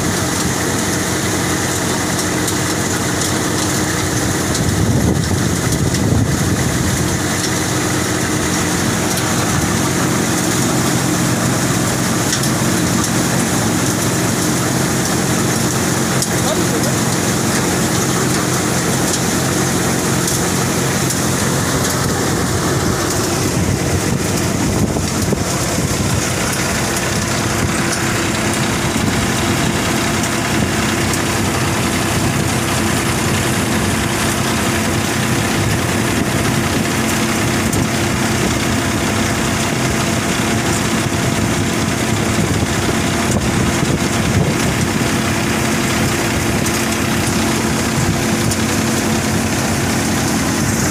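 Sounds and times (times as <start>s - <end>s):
engine hum: 0.0s - 50.9s
threshing machine whirring: 0.0s - 50.9s.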